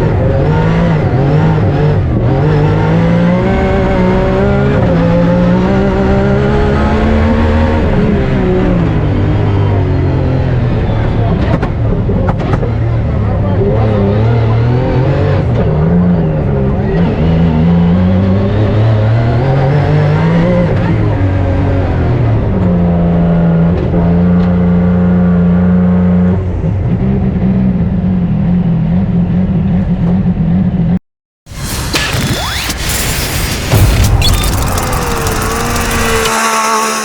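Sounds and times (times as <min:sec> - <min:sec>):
car engine revving: 0:00.0 - 0:25.5, 0:28.5 - 0:37.0.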